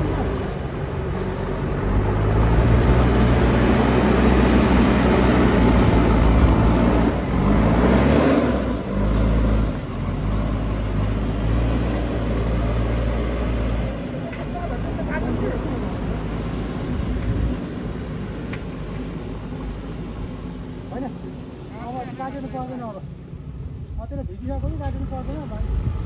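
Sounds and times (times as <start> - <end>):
engine running and revving: 0.0 - 21.1, 24.6 - 26.0.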